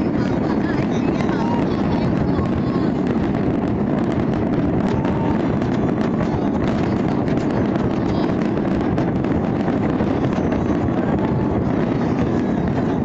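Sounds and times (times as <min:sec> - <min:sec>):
continuous low rumble: 0:00.0 - 0:13.0
fireworks cracking and banging: 0:00.0 - 0:13.0
wind buffeting microphone: 0:00.0 - 0:13.0.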